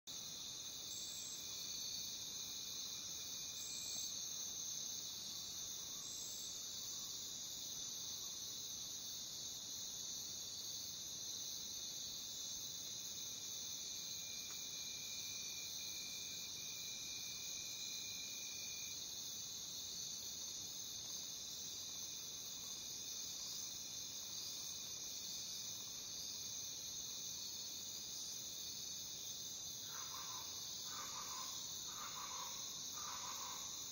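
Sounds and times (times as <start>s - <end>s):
crickets chirring: 0.1s - 33.9s
thin insect trill: 0.1s - 33.9s.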